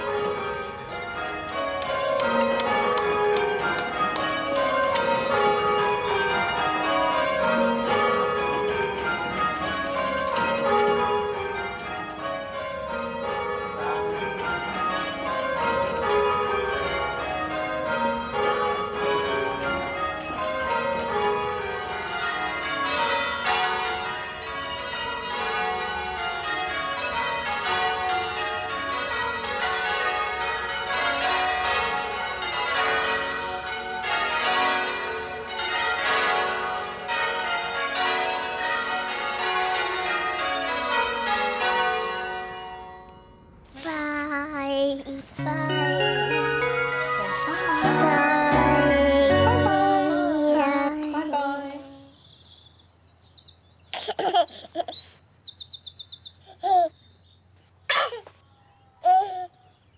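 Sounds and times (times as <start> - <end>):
church bells ringing rounds: 0.0 - 43.9, 45.2 - 57.7.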